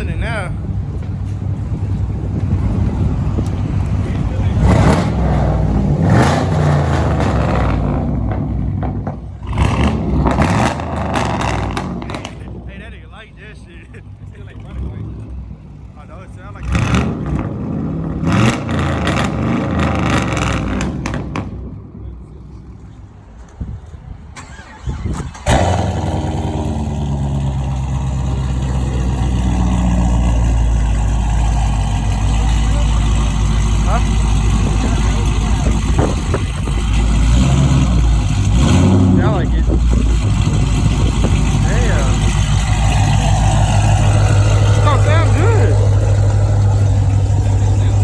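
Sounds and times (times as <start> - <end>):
car engine revving: 0.0 - 13.0, 14.0 - 21.8, 24.4 - 48.0.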